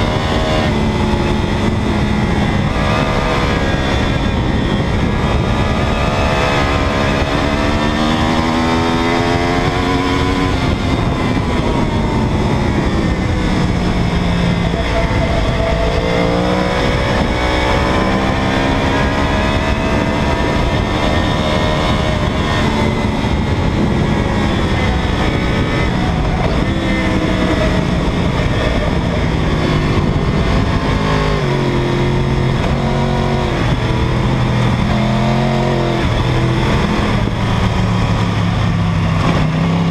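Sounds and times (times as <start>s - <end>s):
heavy rush of wind: 0.0s - 39.9s
motorcycle engine revving: 0.0s - 39.9s.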